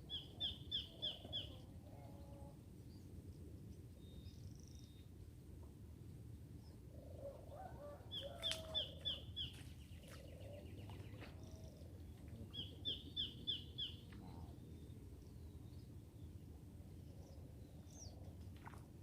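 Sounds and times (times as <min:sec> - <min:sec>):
faint background noise: 0:00.0 - 0:19.0.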